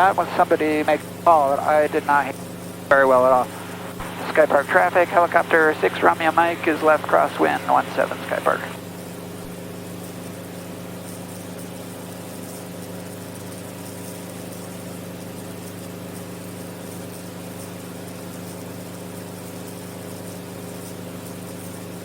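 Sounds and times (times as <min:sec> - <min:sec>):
helicopter drone in flight: 0:00.0 - 0:22.0.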